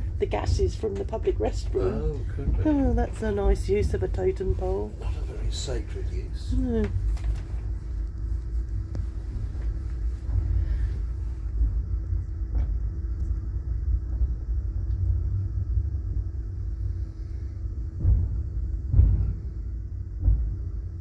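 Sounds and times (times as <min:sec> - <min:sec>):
steady hum: 0:00.0 - 0:21.0
train car rumble: 0:00.0 - 0:21.0.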